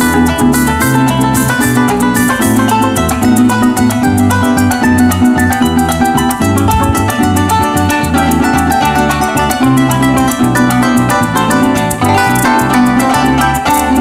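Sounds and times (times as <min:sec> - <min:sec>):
bass line: 0:00.0 - 0:14.0
harp plucked runs: 0:00.0 - 0:14.0
maraca shaking: 0:00.0 - 0:14.0
strummed small guitar: 0:00.0 - 0:14.0.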